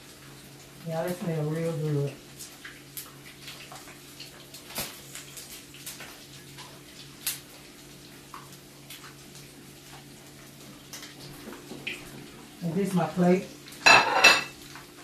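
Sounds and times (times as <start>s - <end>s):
grease popping and crackling: 0.0s - 13.9s
fish frying in hot grease: 0.0s - 15.0s.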